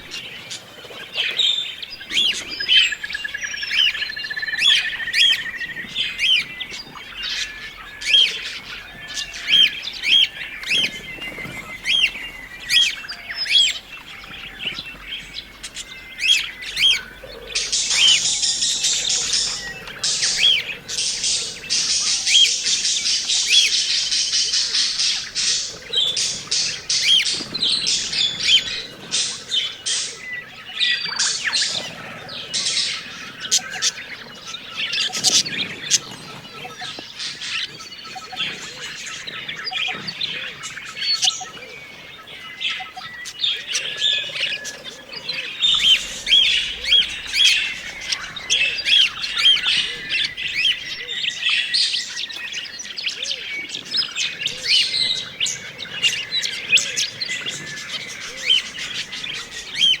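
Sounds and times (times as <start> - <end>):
flock of budgerigars chirping: 0.0 - 60.0.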